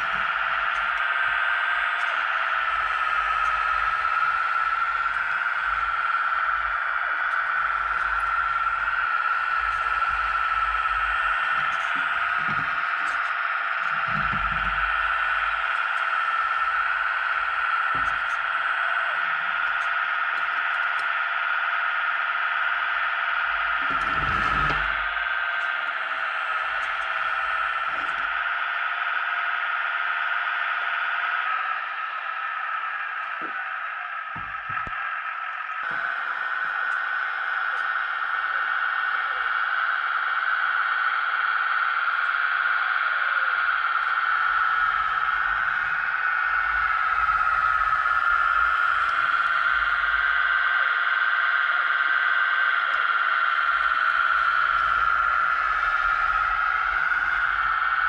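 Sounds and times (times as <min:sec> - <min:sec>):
model motor high hum: 0:00.0 - 0:21.1, 0:22.8 - 0:28.6, 0:34.4 - 0:58.0.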